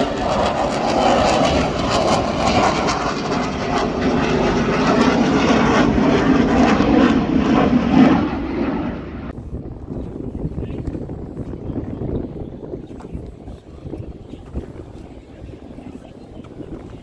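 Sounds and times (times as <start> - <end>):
aircraft engine roar overhead: 0.0 - 17.0.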